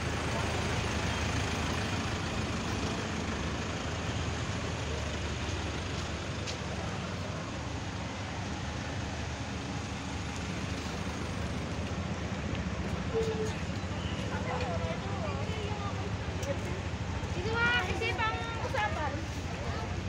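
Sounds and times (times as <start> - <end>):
engine humming: 0.0 - 20.0
outdoor noise: 0.0 - 20.0.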